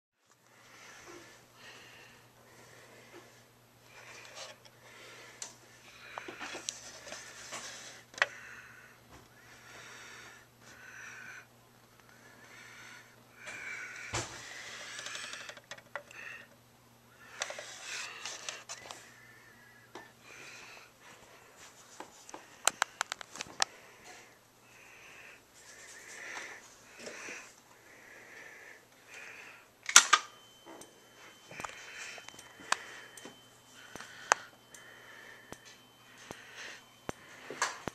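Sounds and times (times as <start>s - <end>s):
steady low hum: 0.2s - 37.9s.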